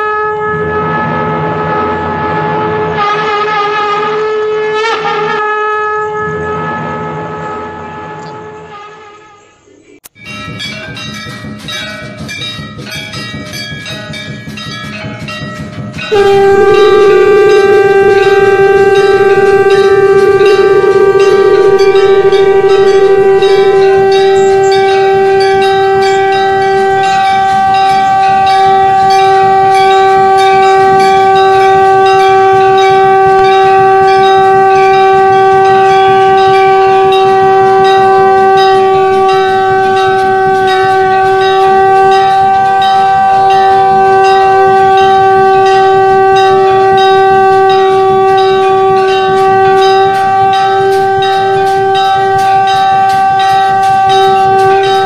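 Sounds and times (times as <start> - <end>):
conch shell blown: 0.0 - 9.5, 16.1 - 55.0.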